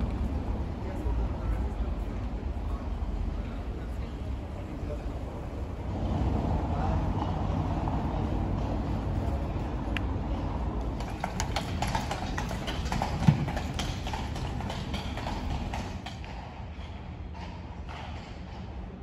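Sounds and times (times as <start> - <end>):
hooves clip-clopping on cobblestones: 0.0 - 5.8, 7.0 - 19.0
low street rumble: 0.0 - 19.0.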